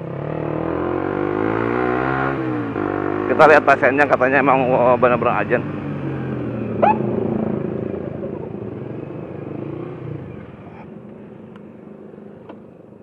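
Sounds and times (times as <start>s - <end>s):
vehicle engine humming: 2.5s - 13.0s.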